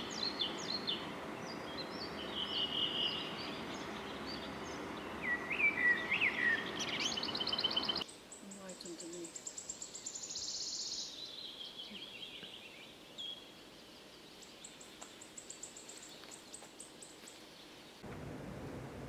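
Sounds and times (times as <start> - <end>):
wood warbler singing: 0.0 - 18.0.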